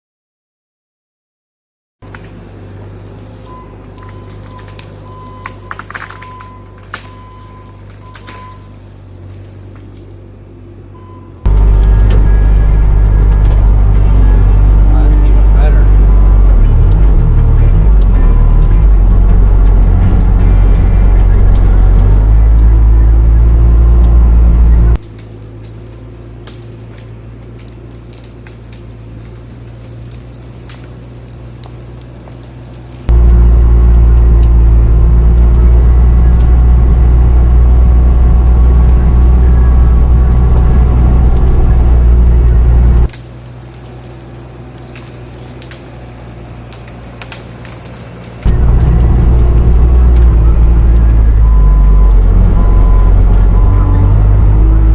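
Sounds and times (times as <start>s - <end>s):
diesel engine running: 2.0s - 54.9s.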